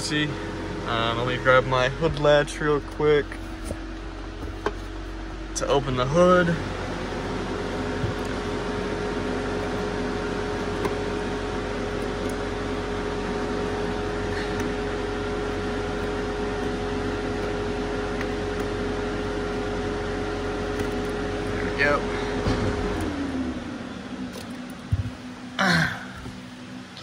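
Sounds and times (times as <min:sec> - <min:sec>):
steady motor hum: 0:00.0 - 0:27.0.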